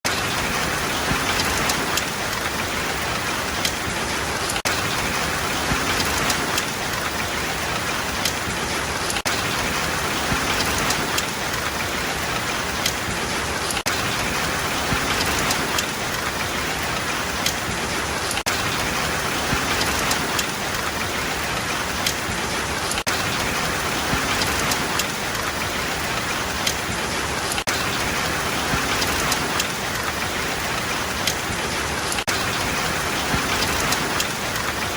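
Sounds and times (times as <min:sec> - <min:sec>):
rain on a hard surface: 0:00.1 - 0:34.9.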